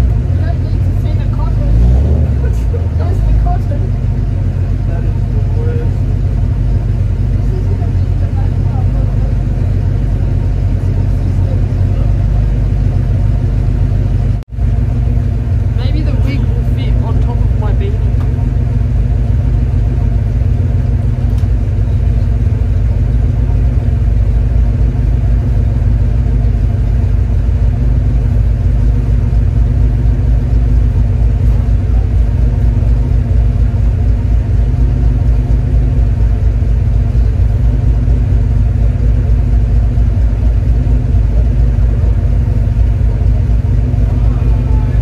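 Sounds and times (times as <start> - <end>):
car engine and road drone: 0.0 - 45.0.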